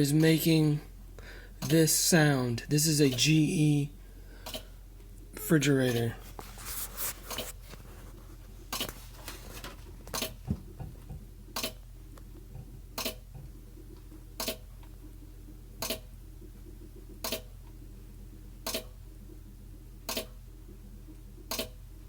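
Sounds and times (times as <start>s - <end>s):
refrigerator low hum: 0.0s - 22.0s.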